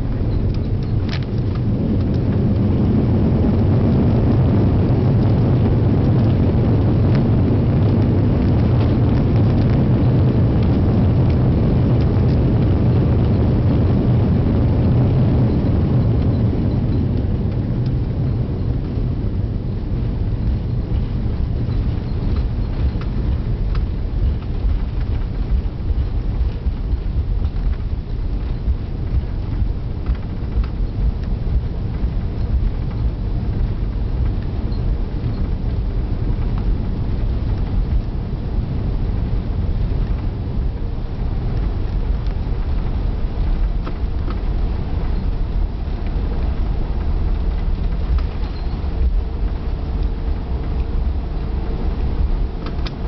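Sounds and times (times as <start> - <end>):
low rumble of wheels and engines: 0.0 - 53.0.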